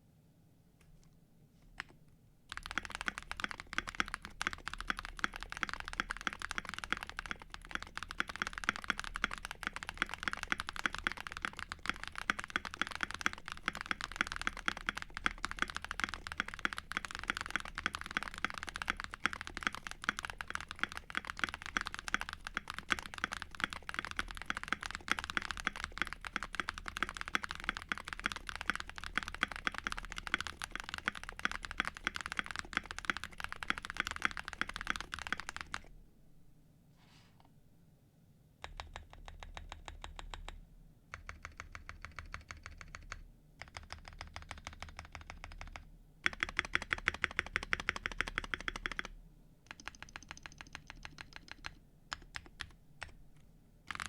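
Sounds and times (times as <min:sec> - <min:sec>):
mechanical keyboard typing: 0:01.8 - 0:35.9, 0:38.6 - 0:53.2.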